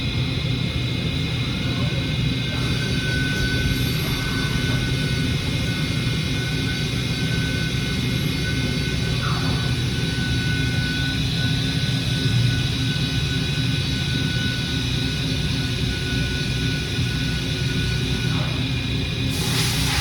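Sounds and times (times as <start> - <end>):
high machine whine: 0.0 - 20.0
milling machine running: 1.0 - 20.0.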